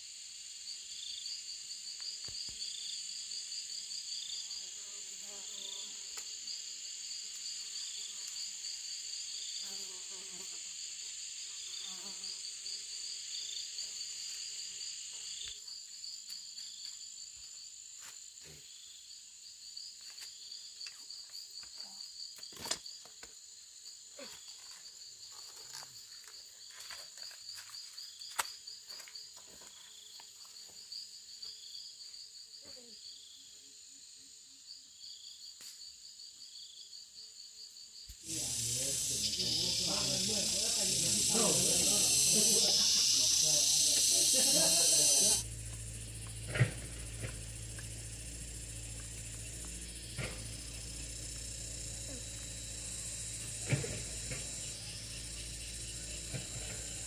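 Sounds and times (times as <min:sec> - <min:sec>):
short insect chirps: 0:00.0 - 0:29.3, 0:37.9 - 0:57.0
insects buzzing and trilling: 0:00.0 - 0:57.0.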